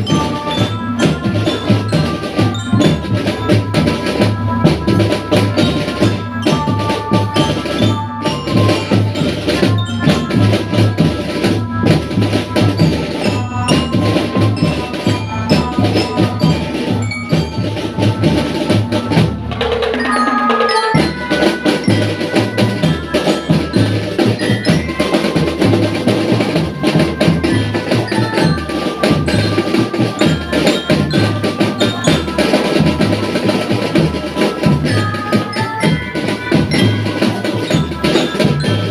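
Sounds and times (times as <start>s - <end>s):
drums beating a steady rhythm: 0.0s - 38.9s
glockenspiel melody: 0.0s - 38.9s.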